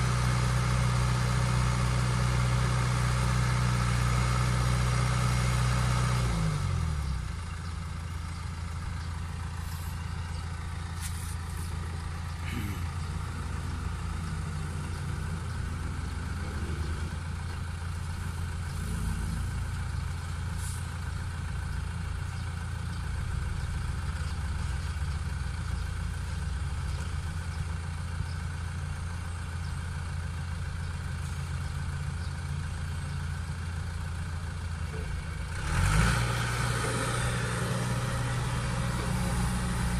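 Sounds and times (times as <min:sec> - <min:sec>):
diesel engines rumbling: 0:00.0 - 0:39.9.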